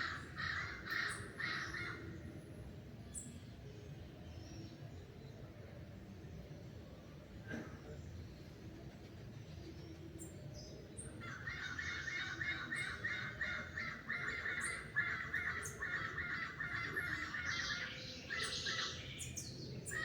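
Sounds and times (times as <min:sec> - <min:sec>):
rapid repeated bird calls: 0:00.0 - 0:03.4, 0:04.0 - 0:20.0.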